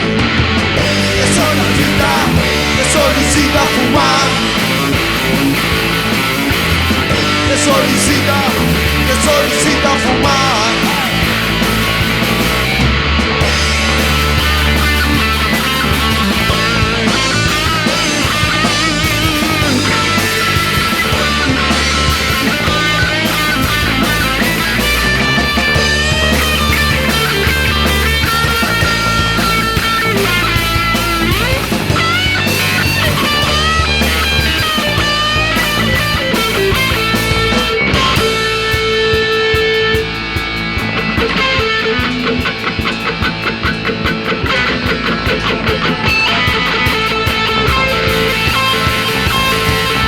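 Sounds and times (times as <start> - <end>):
bending electric guitar lead: 0.0 - 50.0
instrumental rock music: 0.0 - 50.0.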